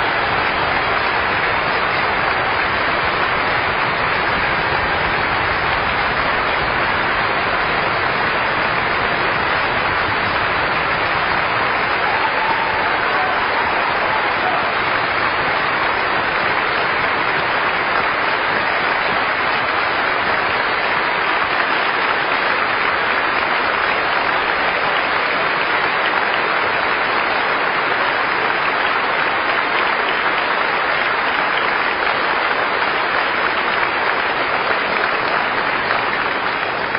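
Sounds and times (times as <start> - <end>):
audience applauding: 0.0 - 36.9.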